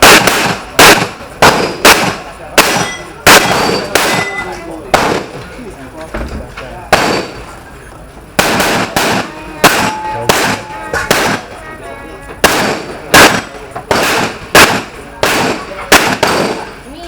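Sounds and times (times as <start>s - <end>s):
gunshots: 0.0s - 5.5s, 6.9s - 7.6s, 8.4s - 11.6s, 12.4s - 16.9s.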